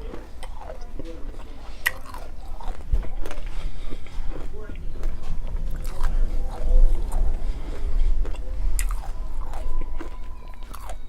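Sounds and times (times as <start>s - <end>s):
chewing rumble: 0.0s - 11.0s
hard candy crunching: 0.0s - 11.0s.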